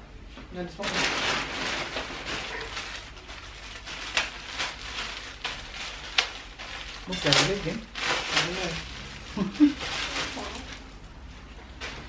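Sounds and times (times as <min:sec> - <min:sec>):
plastic bags crinkling: 0:00.7 - 0:12.0.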